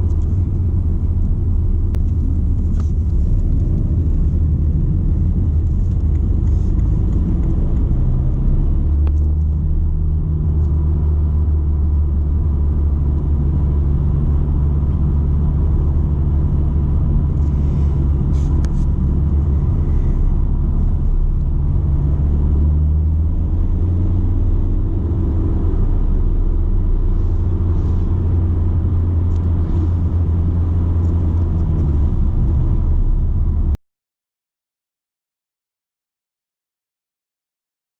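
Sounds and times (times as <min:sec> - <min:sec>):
diesel engine drone: 0:00.0 - 0:33.8
road noise: 0:00.0 - 0:33.8.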